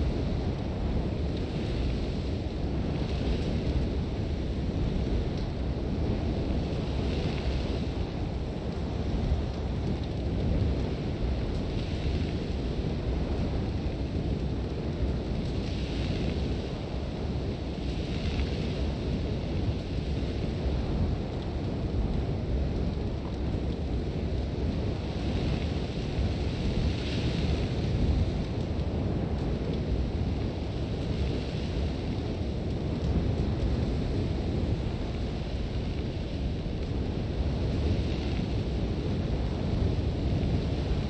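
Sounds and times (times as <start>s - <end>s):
wind rumbling: 0.0s - 41.0s.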